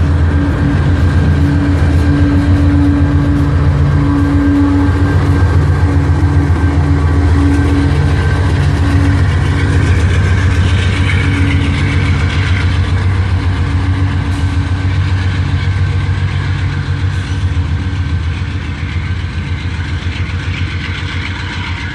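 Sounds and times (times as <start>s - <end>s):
diesel locomotive engine: 0.0s - 21.9s
train rumbling by: 0.0s - 21.9s.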